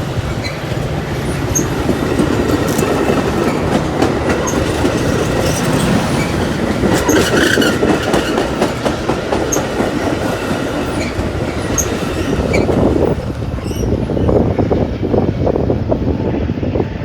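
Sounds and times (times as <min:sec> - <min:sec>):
wheels clicking over rail joints: 0:00.0 - 0:15.2
train wheels rumbling on rails: 0:00.0 - 0:17.0.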